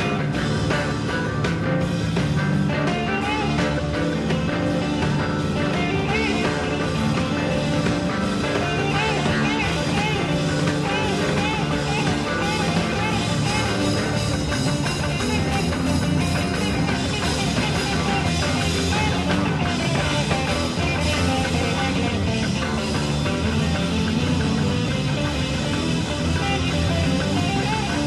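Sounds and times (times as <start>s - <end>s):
bending guitar lines: 0.0s - 28.0s
psychedelic rock music: 0.0s - 28.0s.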